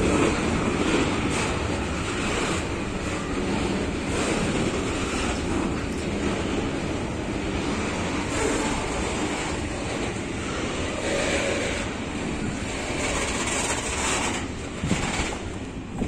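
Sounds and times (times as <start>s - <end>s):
freight train rolling past: 0.0s - 16.0s
wind buffeting microphone: 0.0s - 16.0s.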